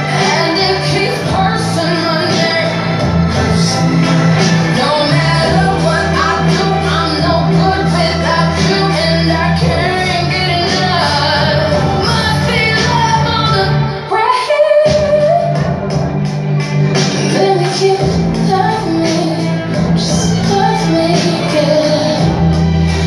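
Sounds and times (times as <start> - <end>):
steady bass line: 0.0 - 14.1, 14.9 - 23.0
woman singing: 0.0 - 15.8, 17.2 - 23.0.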